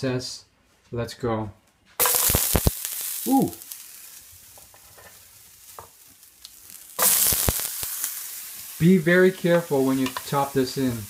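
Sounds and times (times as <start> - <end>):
vegetables sizzling in frying pan: 2.0 - 11.0.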